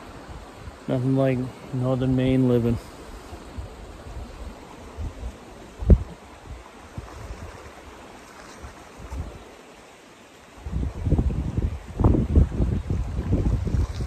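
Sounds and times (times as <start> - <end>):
wind buffeting microphone: 0.0 - 9.6, 10.6 - 14.0.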